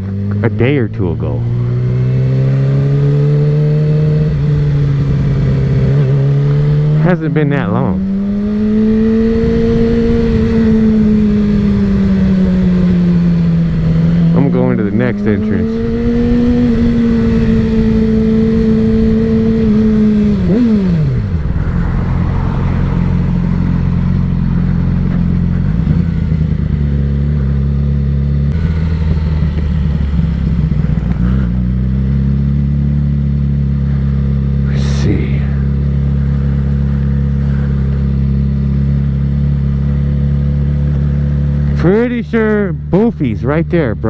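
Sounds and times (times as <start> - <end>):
motorcycle engine: 0.0 - 44.0.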